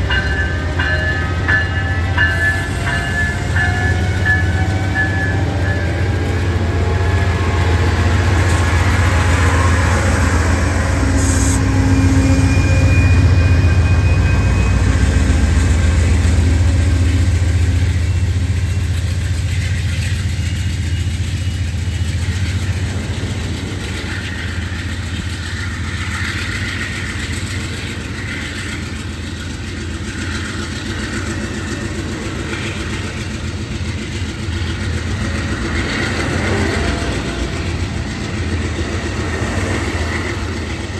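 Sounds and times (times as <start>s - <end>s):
diesel locomotive engine rumble: 0.0s - 40.9s.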